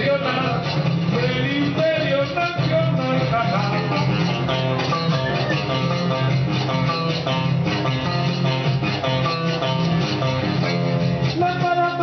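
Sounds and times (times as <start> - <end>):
instrumental guitar music: 0.0 - 12.0.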